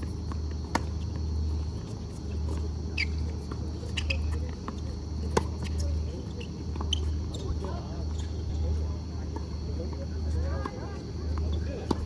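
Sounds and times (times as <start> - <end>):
shoes squeaking on court: 0.0 - 9.6, 10.3 - 12.0
steady low hum: 0.0 - 12.0.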